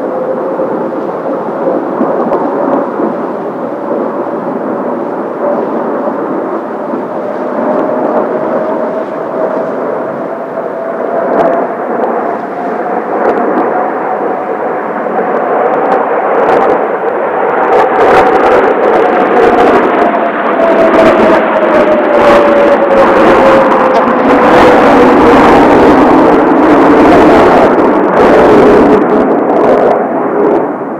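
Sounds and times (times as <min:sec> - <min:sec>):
jet aircraft roar: 0:00.0 - 0:30.9
wind gusts on microphone: 0:00.0 - 0:30.9.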